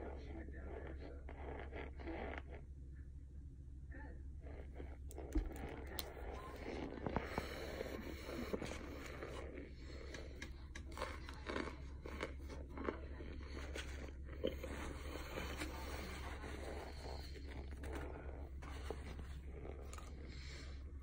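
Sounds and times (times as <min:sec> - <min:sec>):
biting and chewing: 0:00.6 - 0:02.6, 0:04.6 - 0:20.9.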